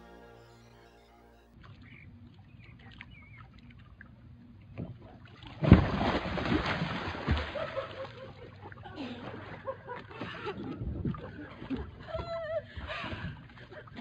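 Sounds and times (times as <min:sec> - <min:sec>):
water sloshing and splashing: 0:01.6 - 0:14.0.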